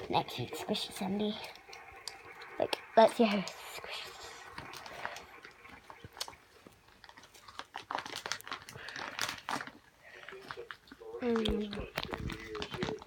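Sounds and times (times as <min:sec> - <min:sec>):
foam squishy crackling and rustling: 0:00.0 - 0:13.0.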